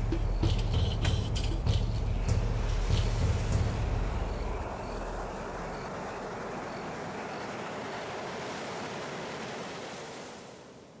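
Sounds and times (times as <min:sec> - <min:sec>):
steady surf-like rushing noise: 0:00.0 - 0:11.0.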